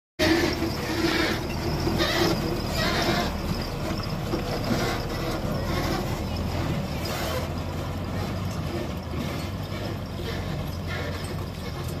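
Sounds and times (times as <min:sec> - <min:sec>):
truck diesel engine driving past: 0:00.2 - 0:12.0.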